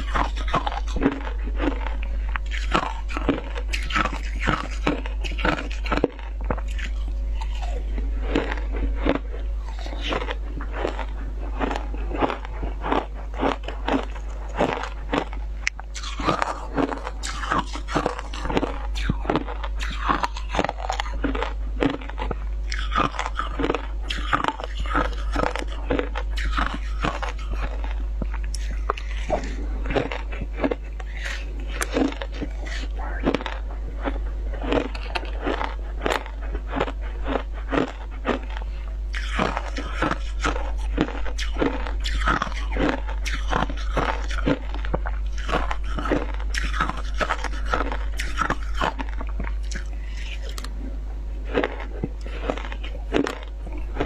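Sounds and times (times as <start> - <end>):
crunching and chewing shaved ice: 0.0 - 54.0.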